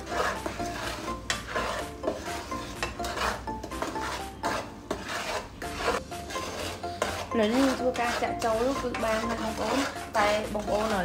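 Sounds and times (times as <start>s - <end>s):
spatula scraping frying pan: 0.0s - 11.0s.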